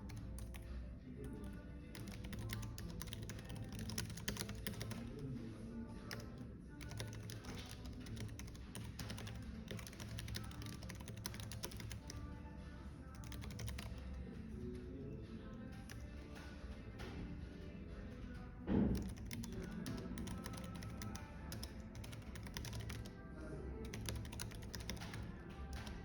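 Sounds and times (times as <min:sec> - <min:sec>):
typing on computer keyboard: 0:00.0 - 0:05.3, 0:06.0 - 0:26.0
soft background music: 0:00.0 - 0:26.0.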